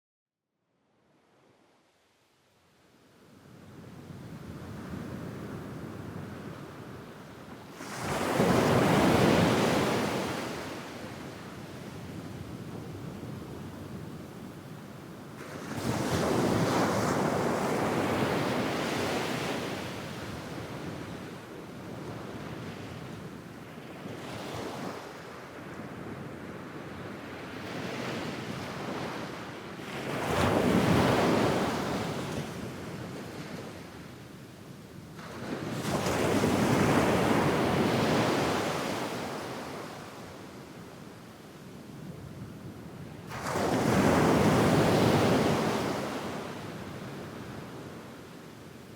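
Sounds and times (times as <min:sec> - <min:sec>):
waves breaking on a beach: 0:03.4 - 0:48.9.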